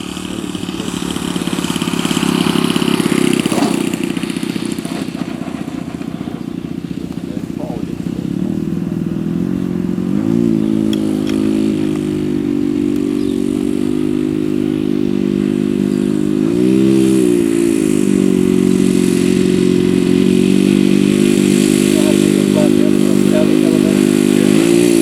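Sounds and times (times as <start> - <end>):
model plane engine droning: 0.0 - 25.0.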